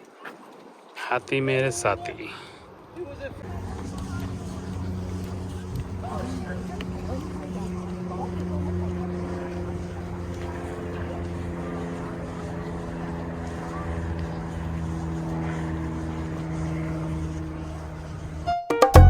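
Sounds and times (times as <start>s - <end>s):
engine drone: 3.2s - 19.0s.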